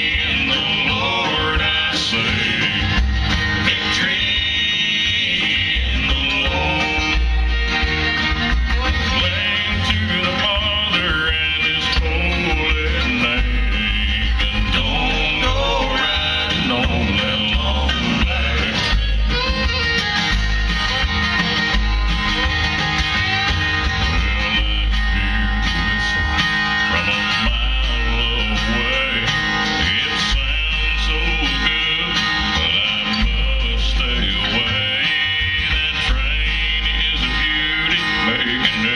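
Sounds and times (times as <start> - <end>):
bass line: 0.0 - 38.9
guitar and plucked strings: 0.0 - 38.9.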